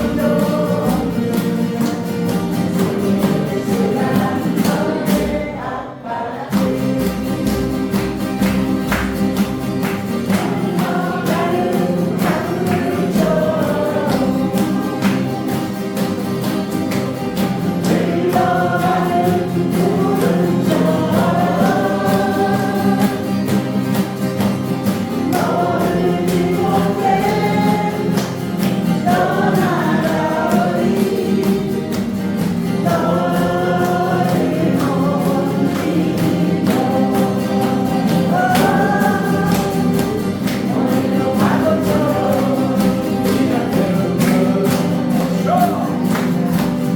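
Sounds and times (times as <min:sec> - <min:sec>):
group of voices singing: 0:00.0 - 0:46.9
guitar accompaniment: 0:00.0 - 0:46.9.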